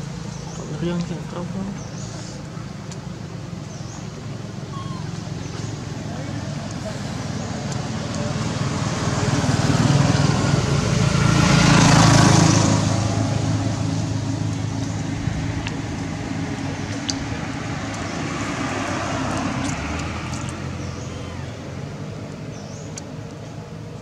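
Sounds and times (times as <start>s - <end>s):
vehicle engine passing: 0.0s - 24.0s.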